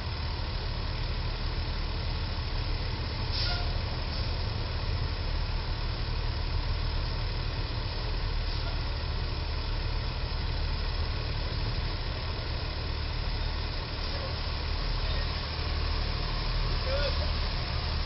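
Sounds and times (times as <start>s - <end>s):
truck engine low rumble: 0.0s - 18.0s.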